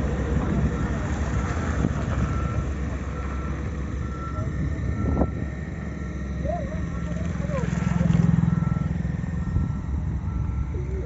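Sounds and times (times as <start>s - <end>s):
diesel earthmoving machinery running: 0.0s - 11.0s
reversing alarm beeping: 0.7s - 11.0s.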